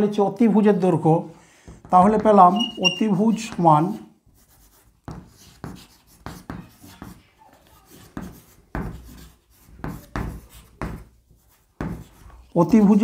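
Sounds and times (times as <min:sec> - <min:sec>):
chalk scratching on blackboard: 0:02.5 - 0:13.0.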